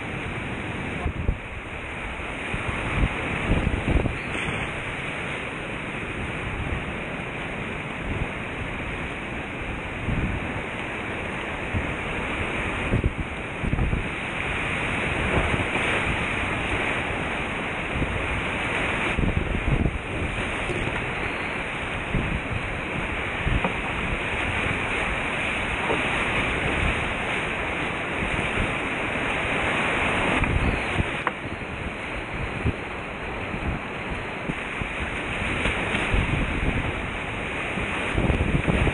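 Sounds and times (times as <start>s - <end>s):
paddle splashes: 0.0s - 38.9s
rushing whitewater: 0.0s - 38.9s
wind rumbling on microphone: 0.0s - 38.9s.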